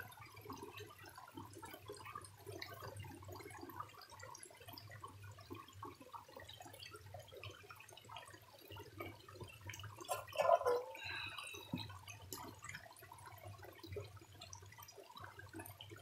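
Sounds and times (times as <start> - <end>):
stream trickling over stones: 0.0 - 16.0.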